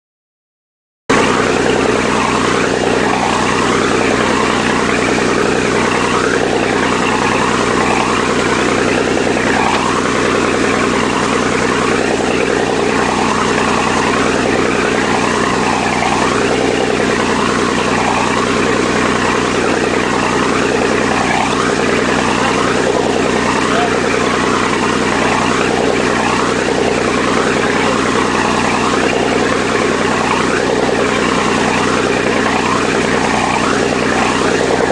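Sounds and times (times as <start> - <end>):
boat engine running: 1.1 - 34.9
water and wind noise: 1.1 - 34.9.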